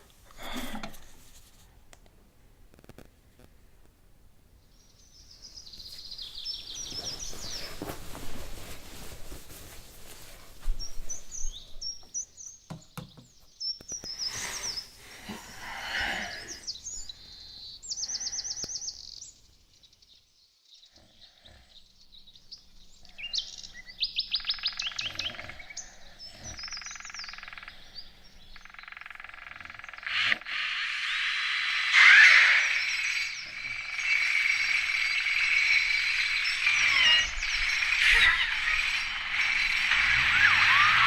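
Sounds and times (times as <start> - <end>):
birds chirping and trilling: 4.6 - 9.2, 10.1 - 41.0.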